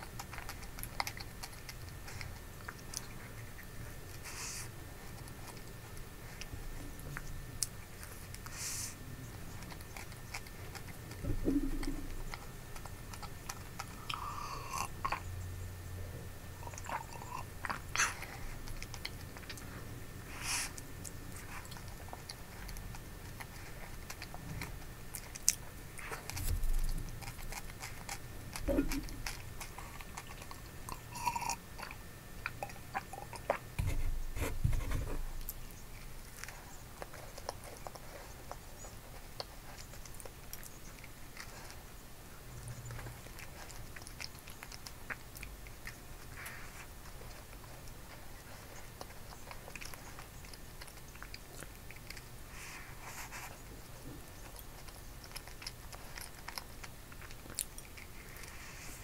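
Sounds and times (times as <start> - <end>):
chewing and biting cookie: 0.0 - 59.0.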